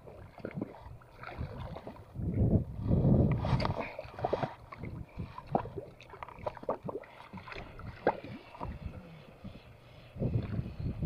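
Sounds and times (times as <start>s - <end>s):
waves lapping against boat hull: 0.0s - 11.0s.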